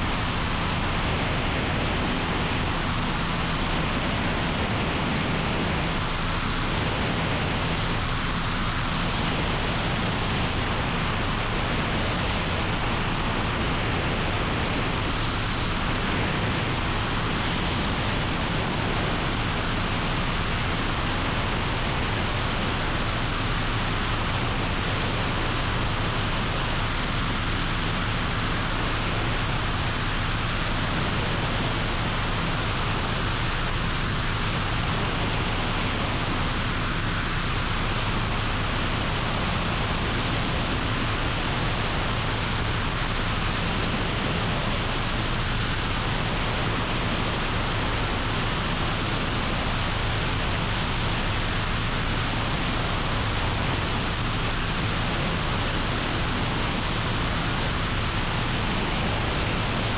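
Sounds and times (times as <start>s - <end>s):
helicopter rotor and engine noise: 0.0s - 59.9s.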